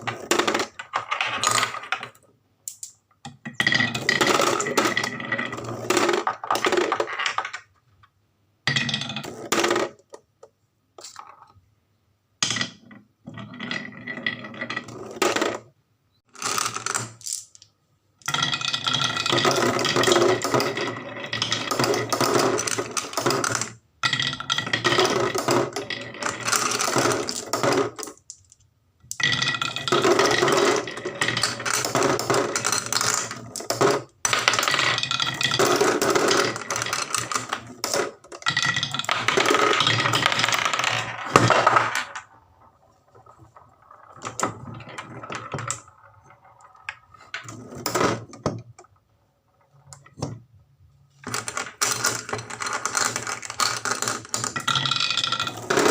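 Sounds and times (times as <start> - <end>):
marbles rolling down wooden run: 0.0 - 2.2, 3.6 - 7.7, 12.4 - 15.7, 16.3 - 48.9, 51.2 - 55.9.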